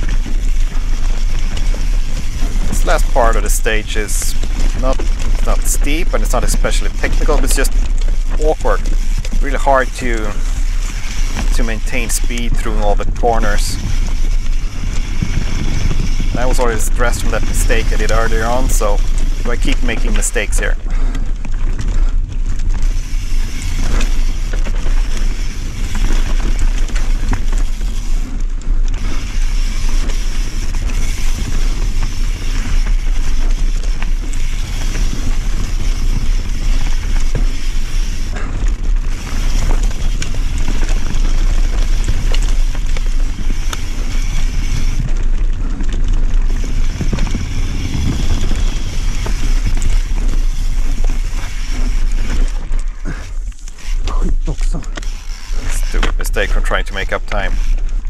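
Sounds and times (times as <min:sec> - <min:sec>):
bike chain rattling and clicking: 0:00.0 - 0:58.0
bike tyre rumble: 0:00.0 - 0:58.0
wind rush on microphone: 0:00.0 - 0:58.0.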